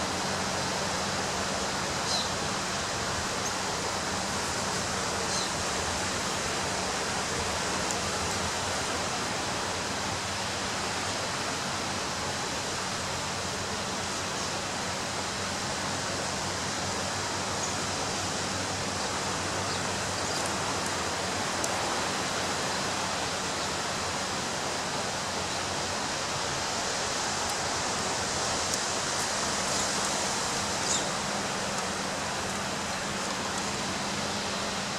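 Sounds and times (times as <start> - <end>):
ocean surf on a beach: 0.0 - 34.9.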